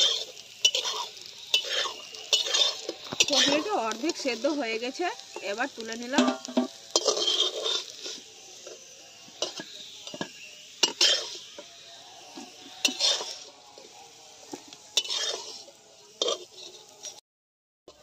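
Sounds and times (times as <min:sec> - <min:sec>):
metal spatula scraping wok: 0:00.0 - 0:17.2
oil sizzling: 0:00.0 - 0:17.2.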